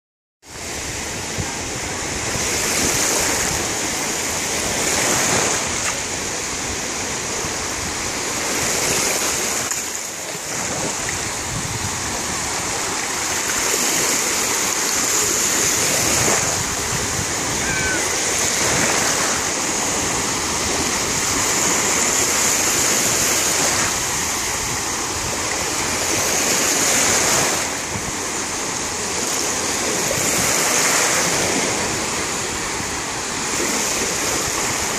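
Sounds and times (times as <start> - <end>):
waves washing through shallows: 0.5 - 34.9.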